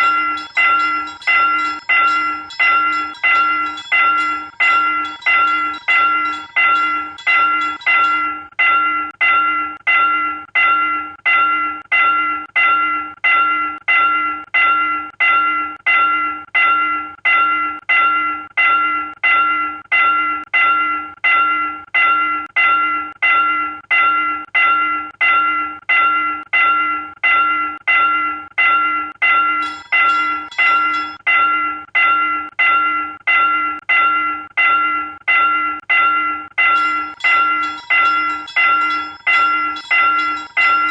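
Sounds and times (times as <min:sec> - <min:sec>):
railroad crossing bell ringing: 0:00.0 - 0:26.8, 0:27.4 - 0:40.9.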